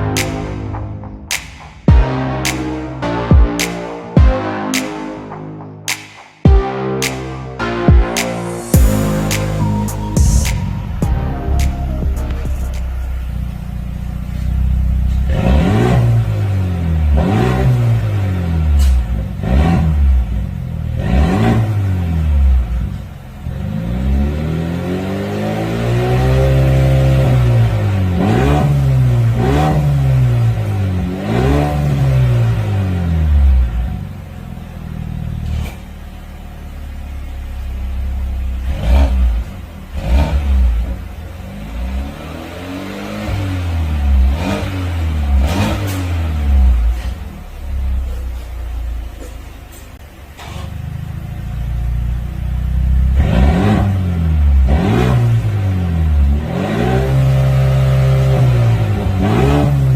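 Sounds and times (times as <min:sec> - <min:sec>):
car engine revving: 0:07.0 - 0:59.9.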